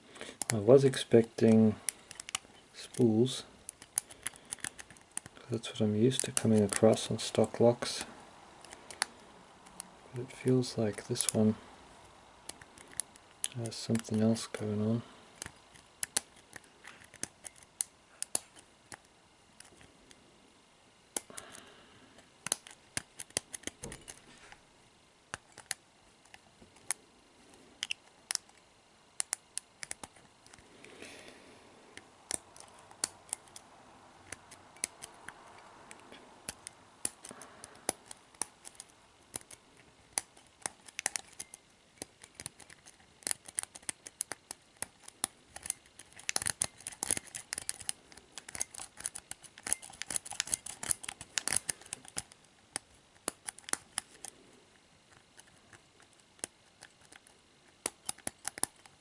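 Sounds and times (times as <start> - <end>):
lock pick clicks and scratches: 0.4 - 0.6, 1.4 - 5.4, 6.0 - 7.6, 8.6 - 11.5, 12.4 - 14.6, 15.4 - 20.2, 21.1 - 21.6, 22.2 - 24.6, 25.3 - 27.0, 27.8 - 30.6, 32.0 - 54.4, 55.0 - 59.0.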